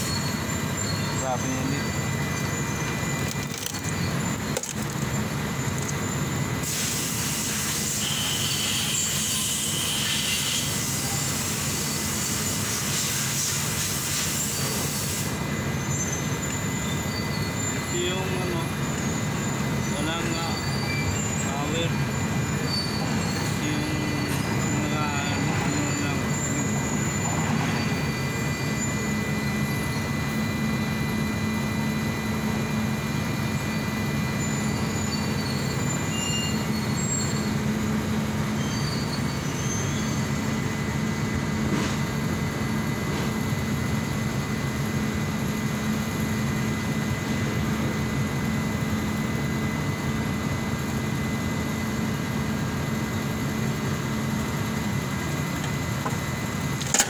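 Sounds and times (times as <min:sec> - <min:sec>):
low engine drone: 0:00.0 - 0:57.0
thin constant whine: 0:00.0 - 0:57.0.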